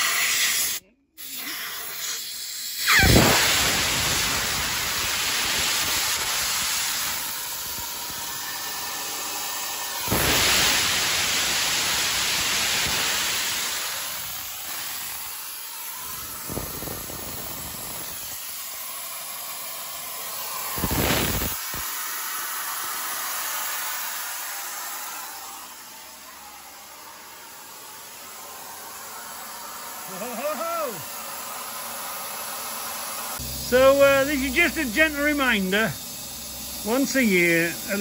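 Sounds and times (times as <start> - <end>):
compressed air hissing: 0.0 - 38.0.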